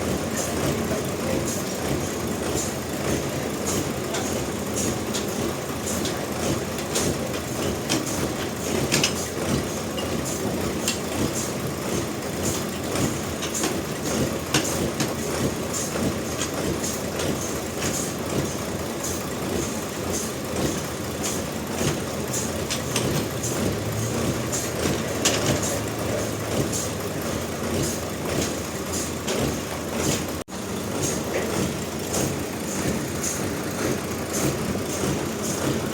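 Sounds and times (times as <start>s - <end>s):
knocks and clatter: 0.0s - 35.9s
sawmill machinery rumbling: 0.0s - 35.9s.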